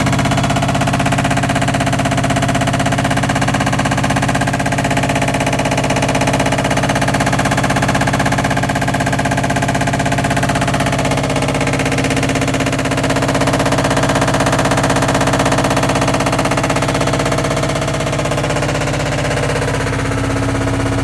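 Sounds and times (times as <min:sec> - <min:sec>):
washer dryer spinning rattling hum: 0:00.0 - 0:21.0.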